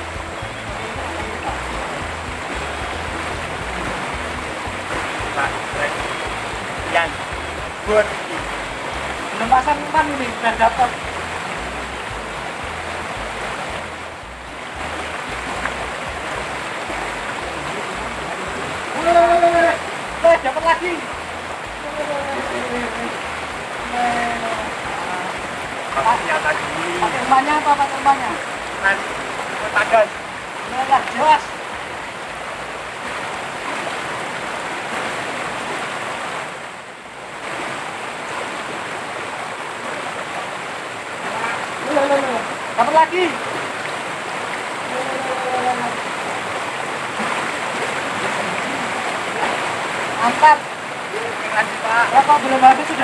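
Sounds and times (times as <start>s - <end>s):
river rushing over rapid: 0.0s - 53.0s.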